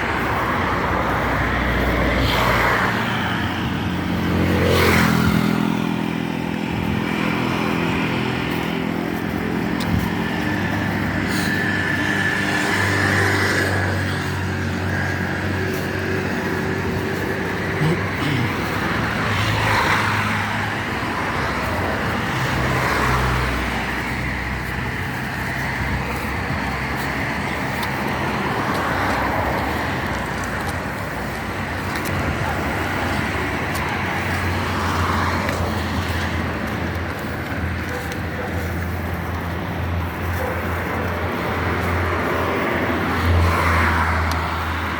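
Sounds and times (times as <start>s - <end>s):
road traffic noise: 0.0s - 44.9s
vehicles passing: 0.0s - 44.9s.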